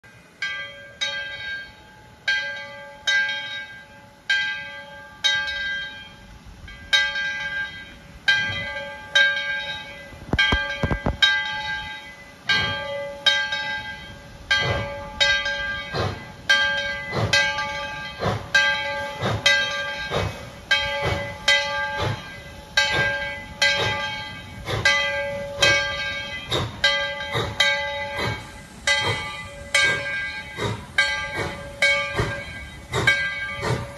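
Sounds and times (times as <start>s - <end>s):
locomotive bell ringing: 0.0s - 33.9s
steam locomotive exhaust chuffs: 0.1s - 33.9s.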